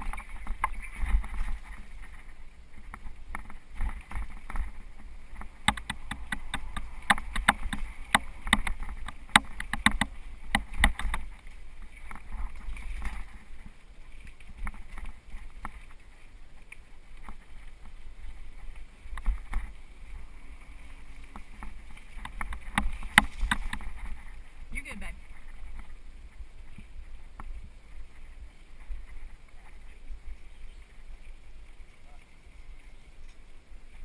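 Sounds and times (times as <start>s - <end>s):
mountain bike rattling on dirt trail: 0.0s - 31.4s
wind rumble on microphone: 0.0s - 34.0s.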